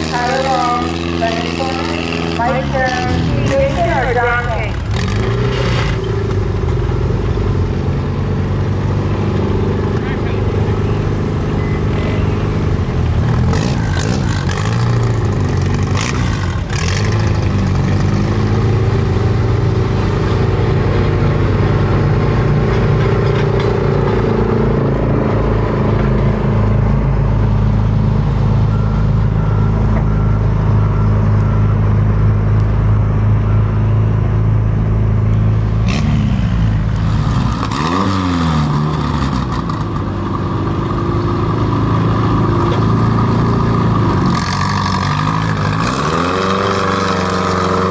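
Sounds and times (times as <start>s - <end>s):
tractor engine running hard: 0.0s - 47.9s.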